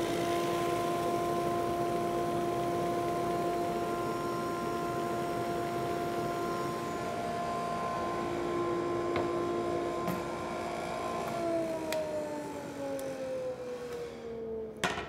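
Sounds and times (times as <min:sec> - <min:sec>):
drum sander whining: 0:00.0 - 0:14.2.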